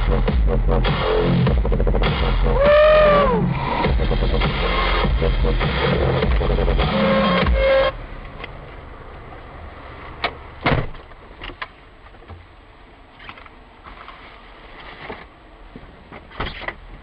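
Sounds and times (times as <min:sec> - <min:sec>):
low steady rumble: 0:00.0 - 0:16.1.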